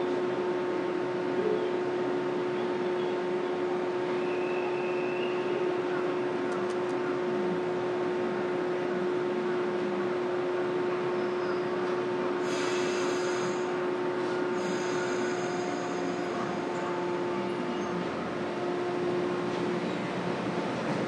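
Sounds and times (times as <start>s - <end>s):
standing train hum: 0.0s - 21.0s.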